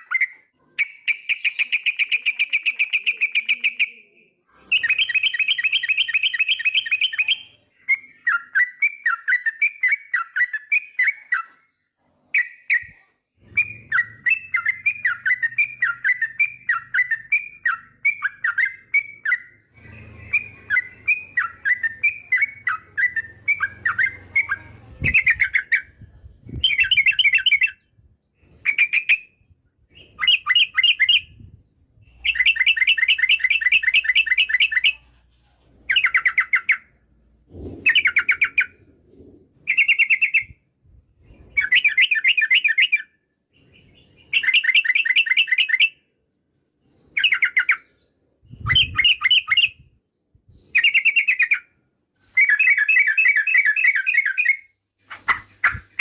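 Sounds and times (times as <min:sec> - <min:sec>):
bird chattering song: 0:00.0 - 0:40.6, 0:41.2 - 0:46.0, 0:46.8 - 0:51.8, 0:52.4 - 0:56.0.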